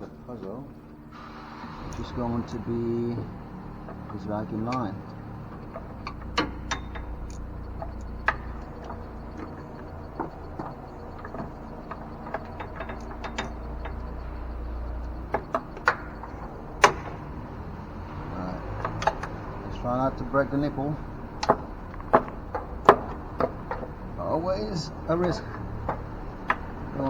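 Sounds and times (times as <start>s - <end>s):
steady low hum: 0.0s - 27.0s
sharp knocks: 1.2s - 27.0s
light clicks and taps of tools: 1.9s - 17.4s, 18.2s - 27.0s.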